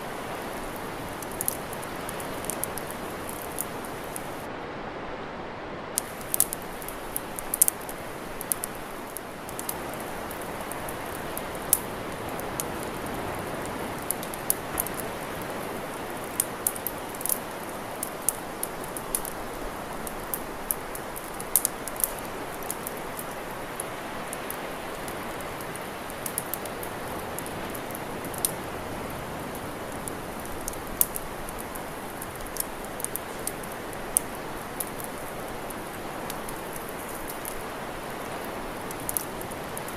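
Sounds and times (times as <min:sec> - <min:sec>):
campfire crackling and popping: 0:00.0 - 0:04.5, 0:06.0 - 0:39.9
steady rushing hiss: 0:00.0 - 0:04.6, 0:05.5 - 0:39.9.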